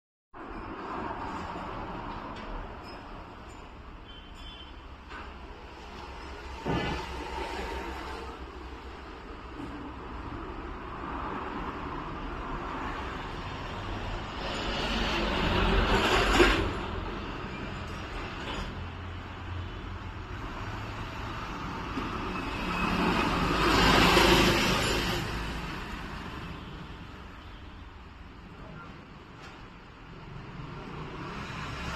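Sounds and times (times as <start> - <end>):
road traffic rumble: 0.4 - 31.9
vehicles passing: 4.9 - 31.9.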